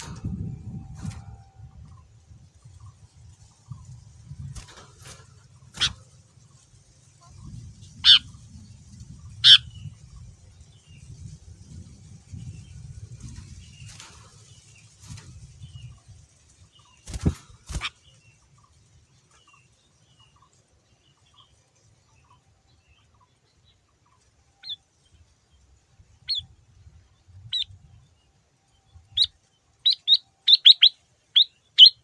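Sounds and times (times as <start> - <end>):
bird calls: 0.0 - 11.1, 12.4 - 32.0
faint bird chirps: 0.0 - 32.0.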